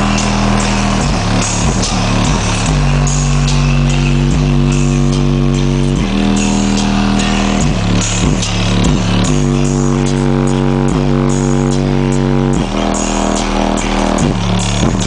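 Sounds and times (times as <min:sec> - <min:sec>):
electronic dance music on car stereo: 0:00.0 - 0:15.0.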